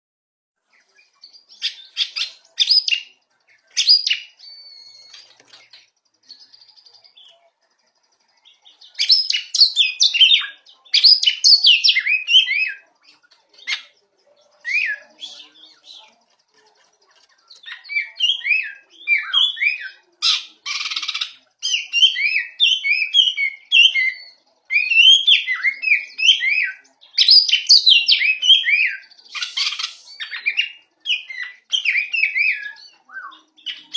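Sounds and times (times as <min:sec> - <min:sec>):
songbird singing: 0:00.6 - 0:33.9.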